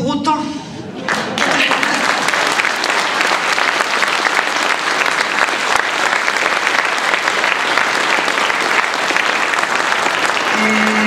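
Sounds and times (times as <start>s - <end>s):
audience applause: 1.0s - 11.0s.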